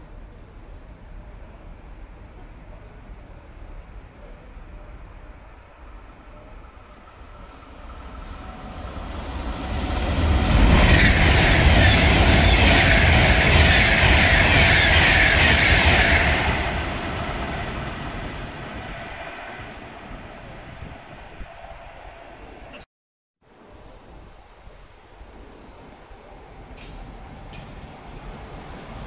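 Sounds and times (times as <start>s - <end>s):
train passing at speed: 0.0s - 22.9s, 24.7s - 29.0s.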